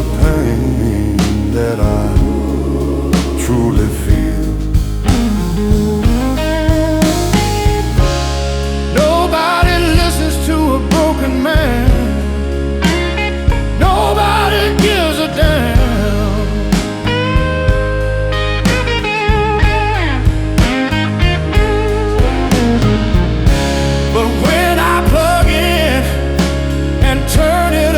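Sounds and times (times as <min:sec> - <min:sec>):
bass and drums: 0:00.0 - 0:27.9
electric guitar bent notes: 0:00.0 - 0:27.9.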